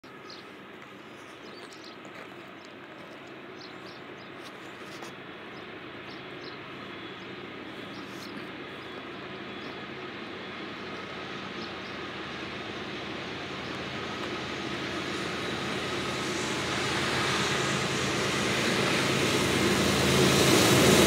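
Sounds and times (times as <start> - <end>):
distant locomotive engine drone: 0.0 - 21.0.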